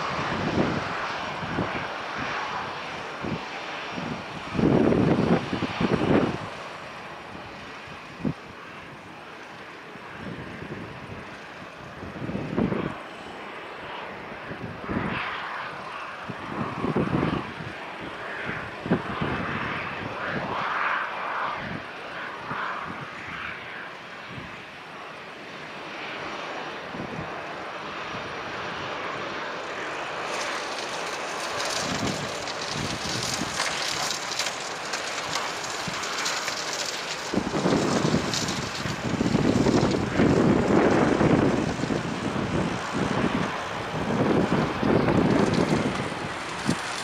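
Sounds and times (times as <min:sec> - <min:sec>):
wind buffeting microphone: 0:00.0 - 0:09.2, 0:10.0 - 0:24.7, 0:26.9 - 0:47.0
jet engines rushing: 0:00.0 - 0:47.0.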